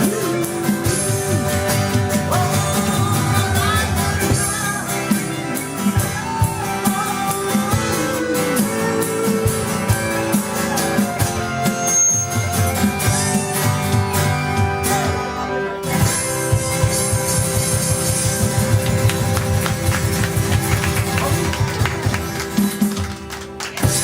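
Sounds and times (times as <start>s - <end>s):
lead guitar with bent notes: 0.0s - 24.0s.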